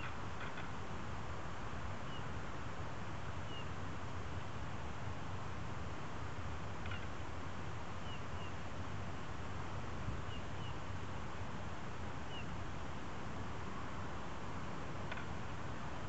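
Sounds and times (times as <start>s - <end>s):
background rumble and hiss: 0.0s - 16.0s.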